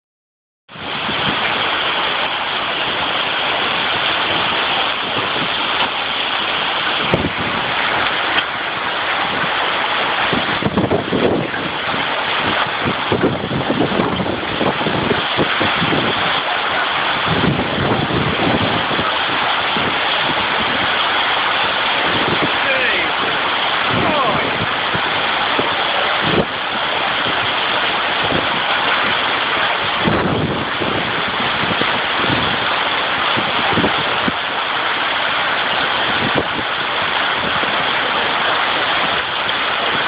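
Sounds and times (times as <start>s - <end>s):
strong wind gusts: 0.7s - 40.0s
torrential rain: 0.7s - 40.0s.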